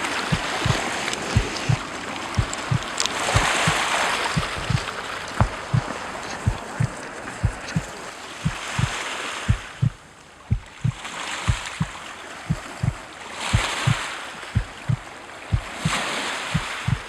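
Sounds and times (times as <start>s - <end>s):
sea water washing against shore: 0.0s - 17.0s
dull low thumps: 0.3s - 11.9s, 12.5s - 16.0s, 16.6s - 17.0s.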